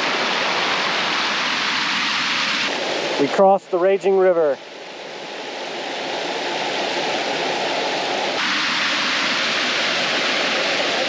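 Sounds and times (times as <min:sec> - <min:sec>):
fast-flowing creek rushing: 0:00.0 - 0:11.0.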